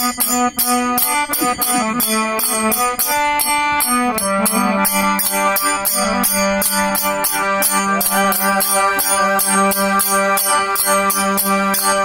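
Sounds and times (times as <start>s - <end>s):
folk melody: 0.0s - 12.0s
held drone: 0.0s - 12.0s
percussion strokes: 0.0s - 12.0s.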